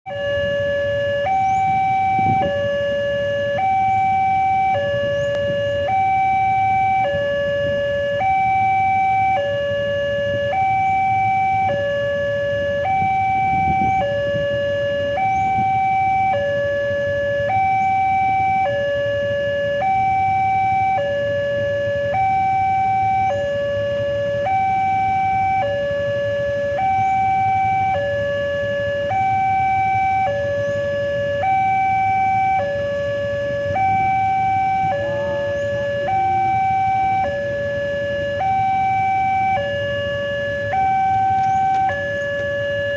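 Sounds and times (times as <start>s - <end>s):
two-tone crossing alarm: 0.1s - 42.9s.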